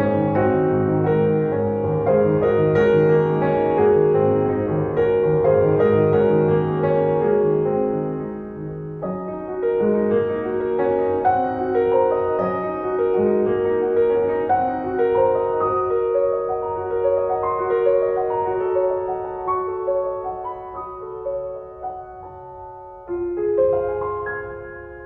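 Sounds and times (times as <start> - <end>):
slow gentle piano: 0.0 - 25.0.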